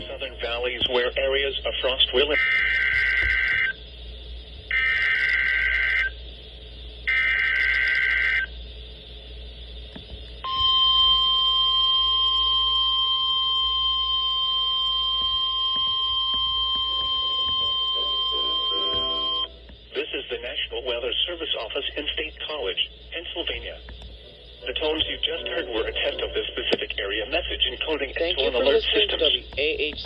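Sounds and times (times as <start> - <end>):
digital data bursts: 0.0 - 4.0, 4.7 - 6.2, 10.5 - 20.6, 21.2 - 30.0
steady warning alarm tone: 0.0 - 8.6, 9.6 - 30.0.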